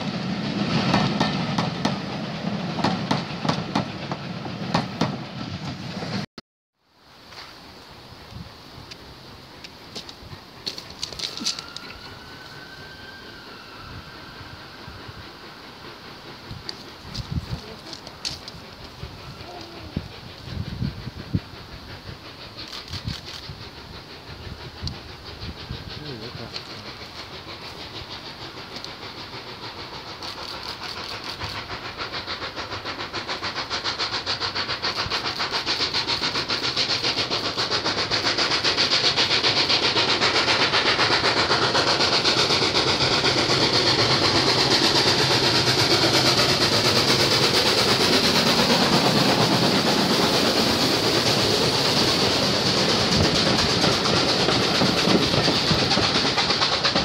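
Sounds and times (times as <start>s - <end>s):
steam locomotive chuffing: 0.0s - 6.3s, 7.0s - 57.0s.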